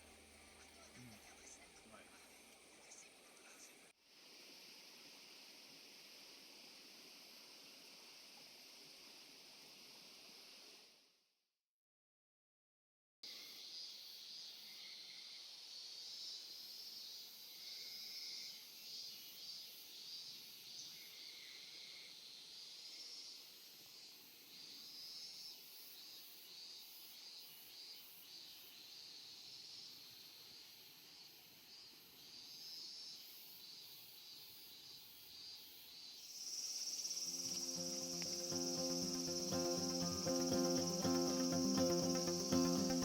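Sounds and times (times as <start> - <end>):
crickets chirping: 2.8 - 10.9, 13.3 - 43.0.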